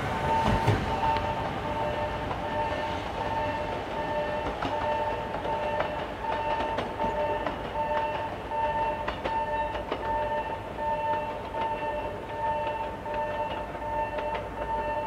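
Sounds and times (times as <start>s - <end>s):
train rumble: 0.0s - 15.0s
train wheels clicking on rails: 0.0s - 15.0s
electronic warning tone: 0.2s - 15.0s.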